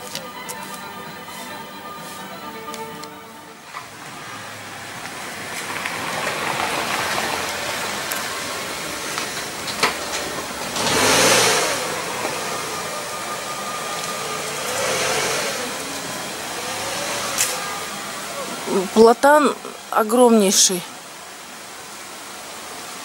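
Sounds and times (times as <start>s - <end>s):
vehicle engine passing: 0.0s - 20.2s
road noise: 0.0s - 23.0s.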